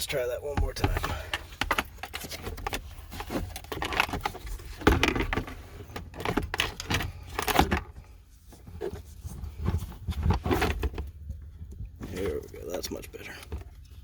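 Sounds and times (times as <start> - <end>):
hands handling wiring parts: 0.0 - 14.0.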